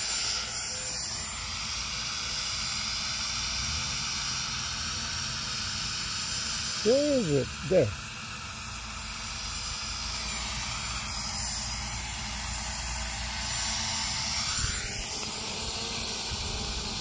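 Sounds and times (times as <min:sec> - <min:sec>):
drone propellers whirring: 0:00.0 - 0:17.0.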